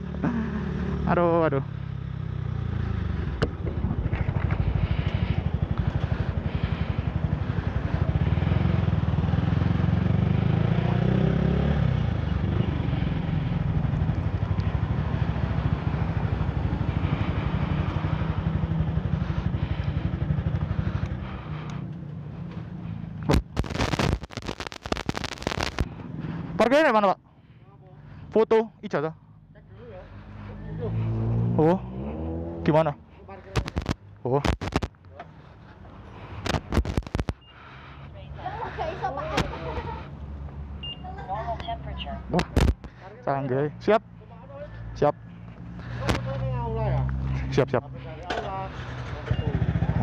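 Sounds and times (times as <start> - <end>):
motorcycle engine running: 0.0 - 26.6, 29.2 - 43.0, 44.3 - 50.0.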